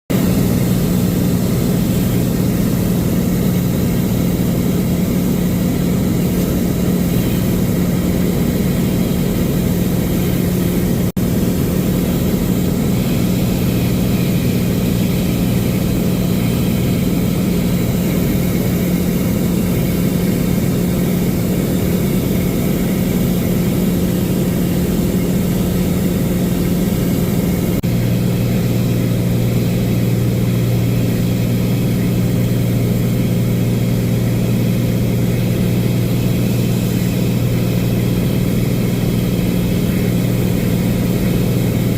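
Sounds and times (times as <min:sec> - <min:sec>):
propeller aircraft engine droning: 0:00.1 - 0:41.9.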